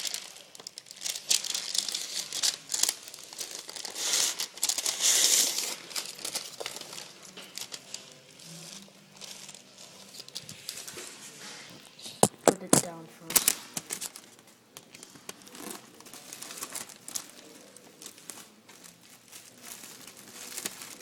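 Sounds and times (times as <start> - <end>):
plastic packaging crinkling: 0.0 - 11.1, 11.9 - 21.0.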